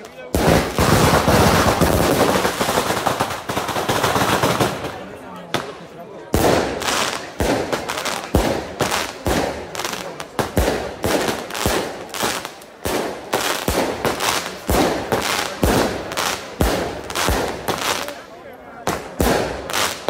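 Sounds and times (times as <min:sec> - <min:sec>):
fireworks banging: 0:00.0 - 0:20.0.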